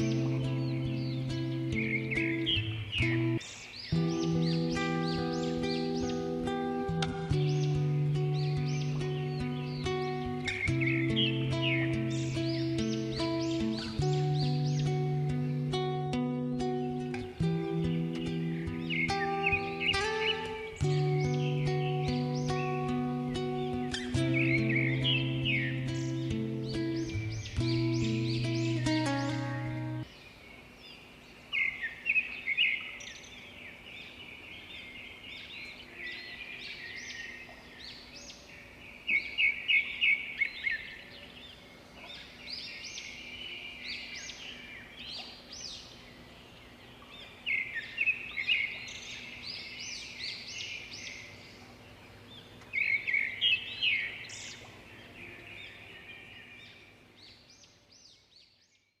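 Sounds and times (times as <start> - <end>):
faint steady hum: 0.0 - 58.3
bird chirping: 0.0 - 59.0
songbird singing: 0.0 - 59.0.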